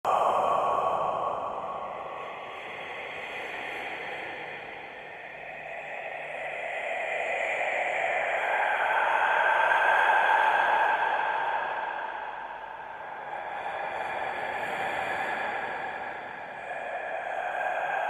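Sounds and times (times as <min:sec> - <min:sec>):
eerie whispery hiss: 0:00.0 - 0:18.0.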